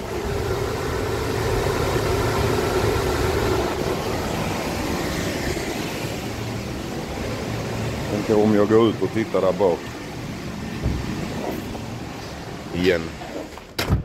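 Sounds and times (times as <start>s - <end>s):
stove blower and burner rushing: 0.0s - 13.6s.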